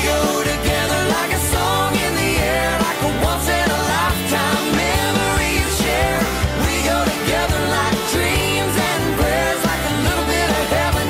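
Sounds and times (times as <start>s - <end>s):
pop music with drums and bass: 0.0s - 11.0s.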